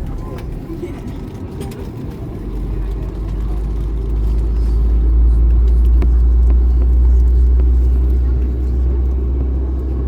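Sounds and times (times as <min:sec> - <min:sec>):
airplane cabin low rumble: 0:00.0 - 0:10.0.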